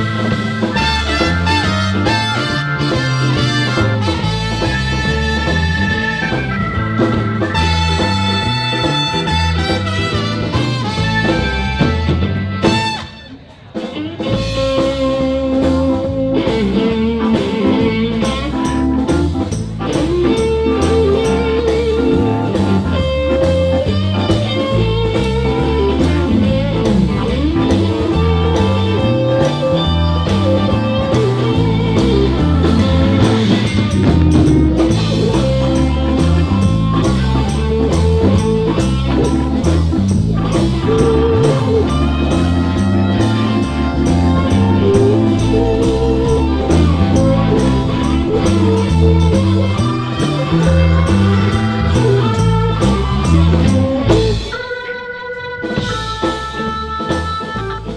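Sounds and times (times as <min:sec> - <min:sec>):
live blues band playing: 0:00.0 - 0:57.9
walking bass line: 0:00.0 - 0:57.9.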